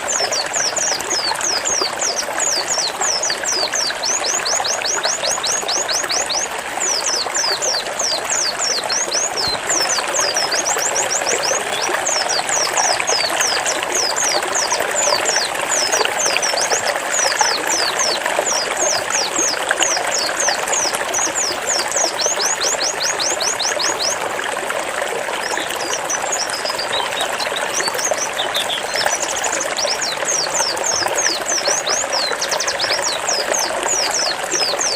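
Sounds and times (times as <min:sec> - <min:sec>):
bird singing rapid falling notes: 0:00.0 - 0:24.4, 0:25.0 - 0:34.9
trickling water: 0:00.0 - 0:34.9.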